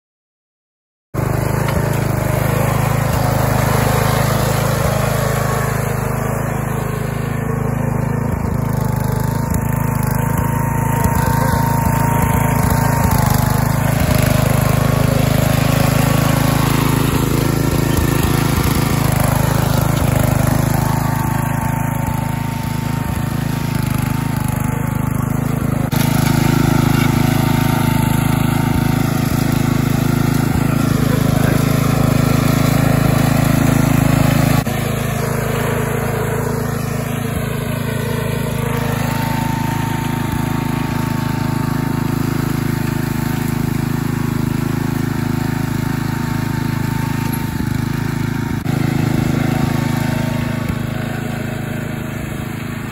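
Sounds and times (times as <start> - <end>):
mower engine running: 1.2 - 52.9.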